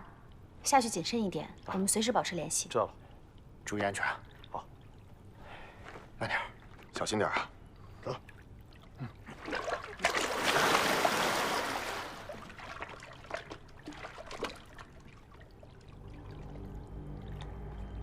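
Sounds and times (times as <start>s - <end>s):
water trickling: 0.1s - 18.0s
water splashing and sloshing: 0.2s - 18.0s.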